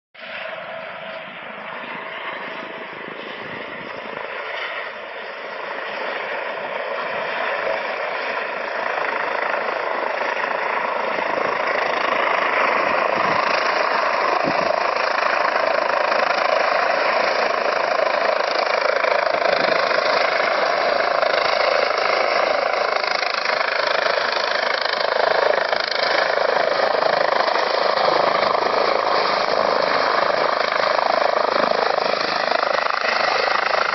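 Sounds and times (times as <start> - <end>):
helicopter running: 0.2 - 33.9.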